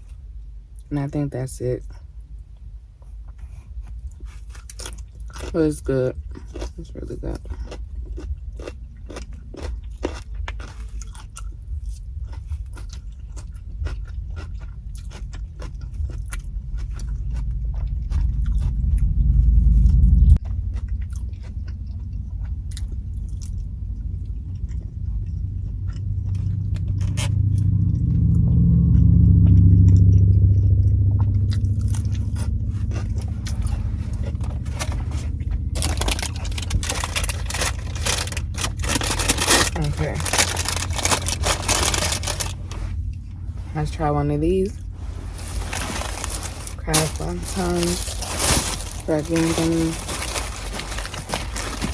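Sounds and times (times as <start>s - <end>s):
low rumble: 0.0s - 51.9s
chewing crunchy vegetables: 2.6s - 44.0s, 44.7s - 51.9s.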